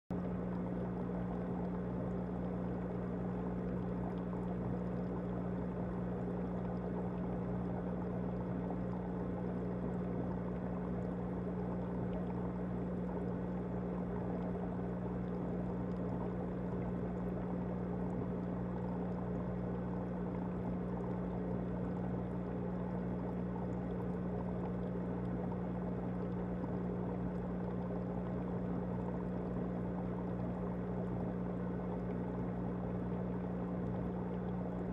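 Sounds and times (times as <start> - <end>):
aquarium pump humming: 0.1 - 34.9.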